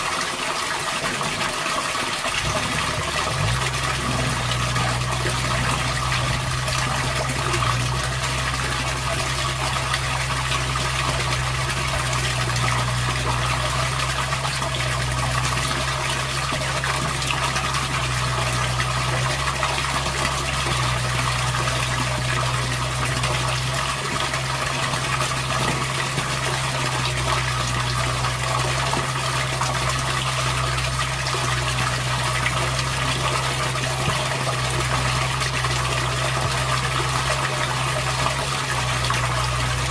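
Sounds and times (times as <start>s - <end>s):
flowing water rushing: 0.0s - 39.9s
low hum: 2.3s - 39.9s.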